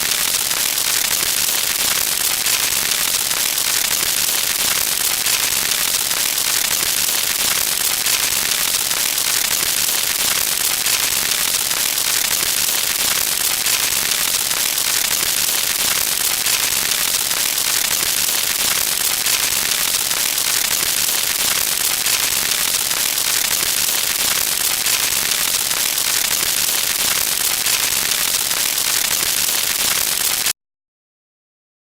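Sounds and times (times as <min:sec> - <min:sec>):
dense electric crackling: 0:00.0 - 0:30.5.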